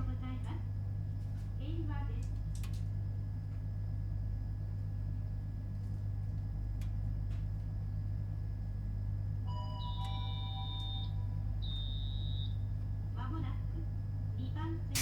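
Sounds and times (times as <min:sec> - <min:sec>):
low hum inside train car: 0:00.0 - 0:15.0.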